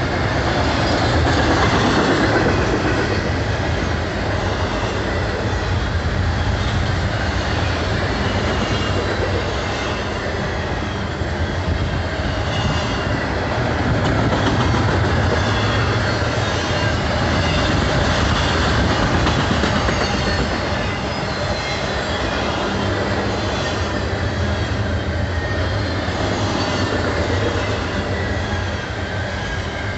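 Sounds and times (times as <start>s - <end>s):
freight train wheels on rails: 0.0s - 29.9s.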